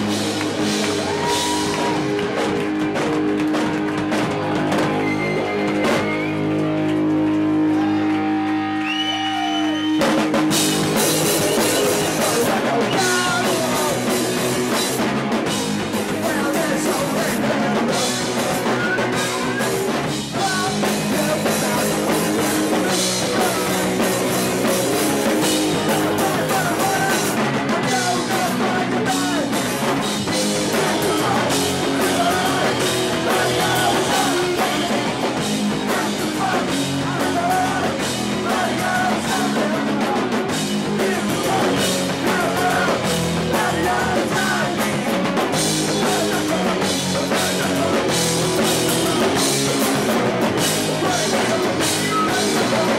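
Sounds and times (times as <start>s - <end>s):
punk rock band playing: 0.0s - 52.9s.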